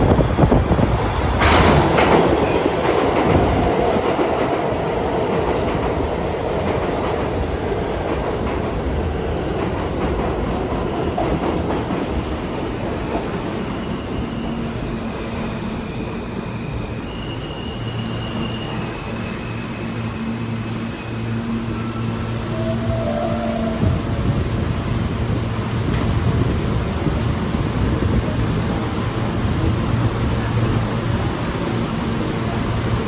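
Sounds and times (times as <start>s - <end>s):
subway train wheels clattering: 0.0s - 33.0s.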